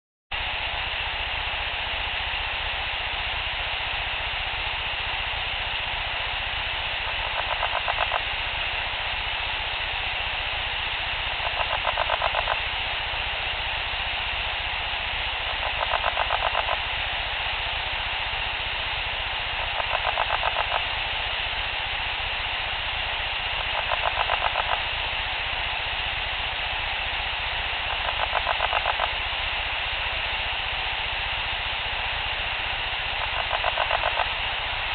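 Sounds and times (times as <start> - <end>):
recording hiss: 0.3 - 34.9.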